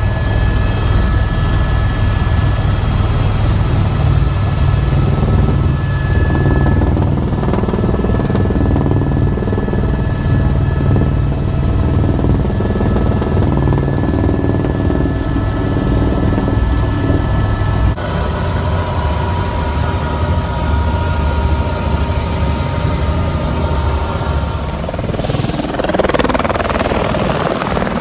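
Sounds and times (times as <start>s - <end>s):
helicopter rotor and engine drone: 0.0s - 28.0s
thin steady whine: 0.0s - 28.0s.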